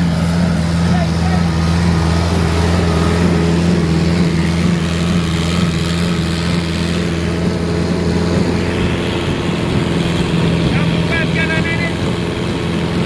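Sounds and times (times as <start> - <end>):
pump engine humming: 0.0 - 13.0.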